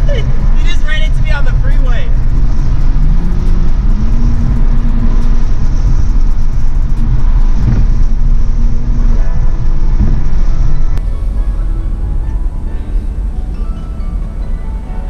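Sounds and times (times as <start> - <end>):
car engine driving: 0.0 - 15.0
loud road rumble: 0.0 - 15.0.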